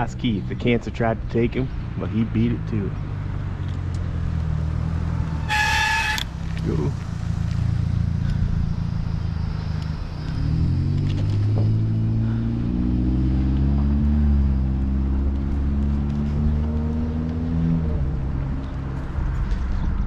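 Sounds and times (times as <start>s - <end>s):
vehicle engine pulling away: 1.6s - 20.0s.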